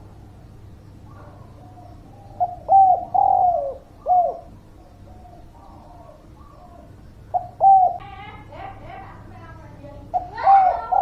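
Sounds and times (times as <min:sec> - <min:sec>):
dove cooing: 0:00.0 - 0:09.1, 0:10.1 - 0:11.0.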